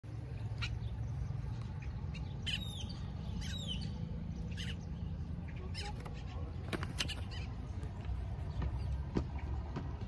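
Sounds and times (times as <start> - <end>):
birds squawking: 0.2 - 9.6.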